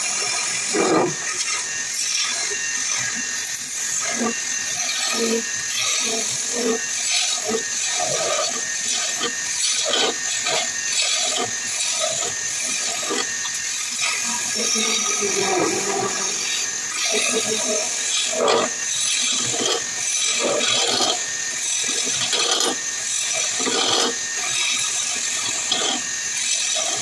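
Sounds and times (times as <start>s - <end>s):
tool scraping spinning wood: 0.0s - 27.0s
wood lathe running: 0.0s - 27.0s.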